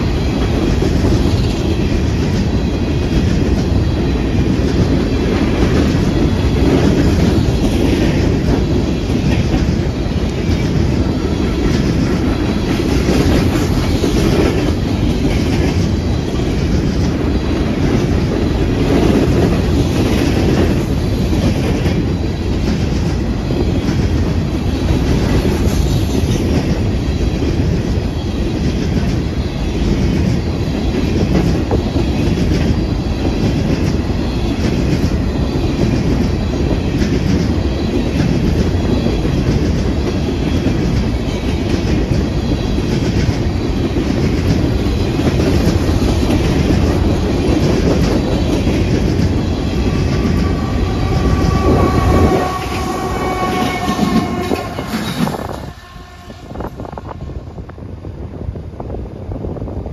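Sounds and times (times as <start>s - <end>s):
clickety-clack over rail joints: 0.0s - 57.8s
wheel-on-rail rumble: 0.0s - 59.9s.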